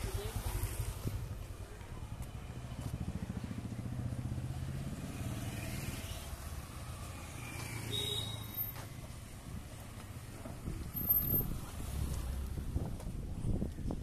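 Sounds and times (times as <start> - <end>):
motorcycle engines passing: 0.0 - 13.7.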